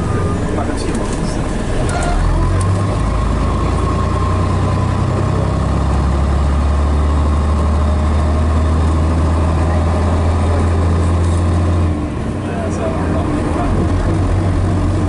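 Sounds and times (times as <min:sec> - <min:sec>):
bus diesel engine droning: 0:00.0 - 0:15.0.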